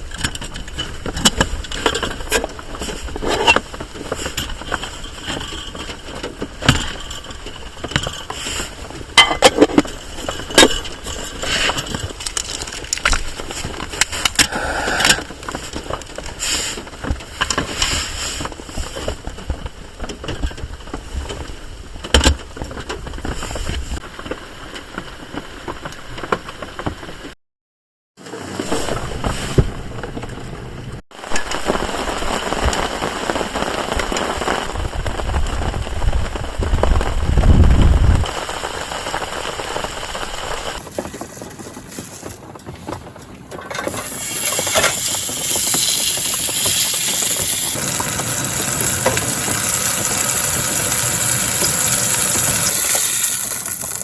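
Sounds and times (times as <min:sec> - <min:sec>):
rain pattering on tarp: 0:00.0 - 0:27.4, 0:31.1 - 0:54.0.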